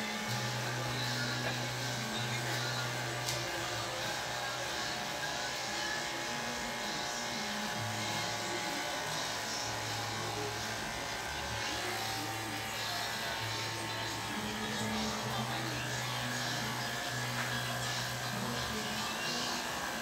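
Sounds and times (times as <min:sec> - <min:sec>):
electric hair clippers buzzing: 0:00.0 - 0:20.0.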